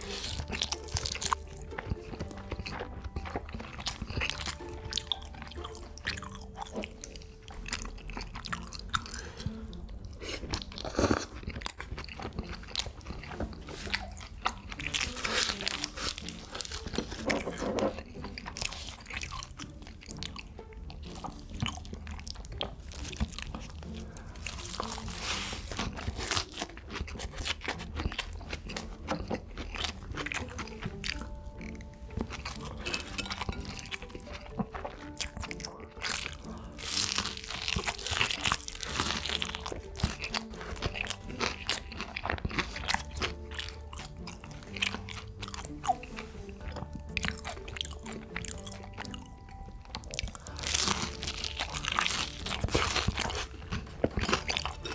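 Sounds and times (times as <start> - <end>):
person chewing crunchy food: 0.0 - 54.9
soft background music: 0.0 - 54.9.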